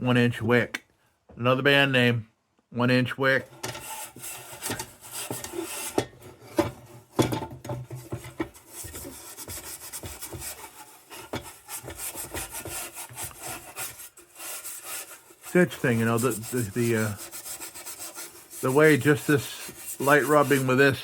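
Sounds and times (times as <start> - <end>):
steel wool rubbing metal: 3.3 - 21.0.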